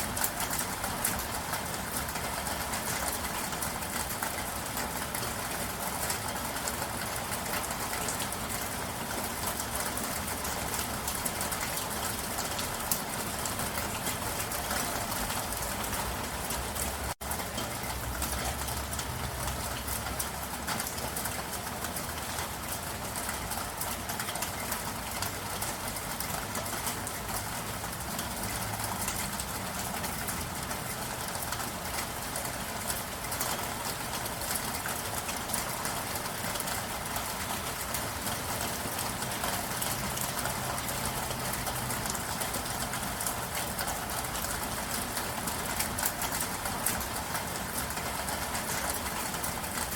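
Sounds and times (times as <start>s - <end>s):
raindrops ticking: 0.1s - 49.9s.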